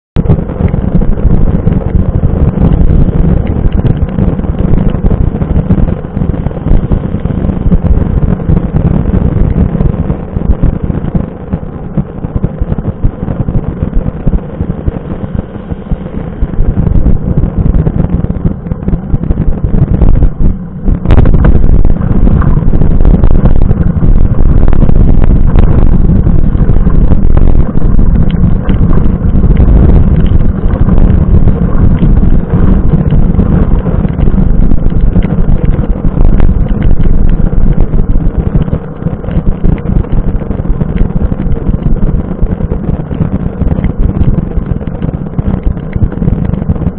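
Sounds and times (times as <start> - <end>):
wind buffeting and road rumble: 0.0 - 46.9.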